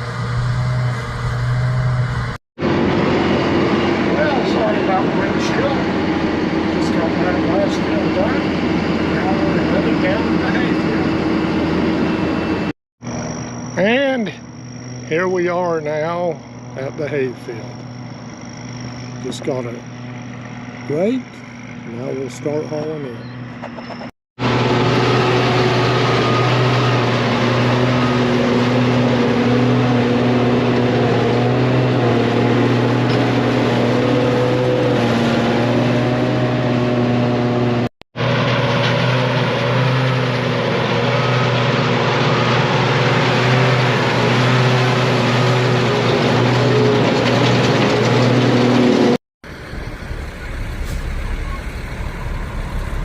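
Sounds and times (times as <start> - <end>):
diesel engine droning: 0.0 - 53.0
rough engine rumble: 0.0 - 53.0.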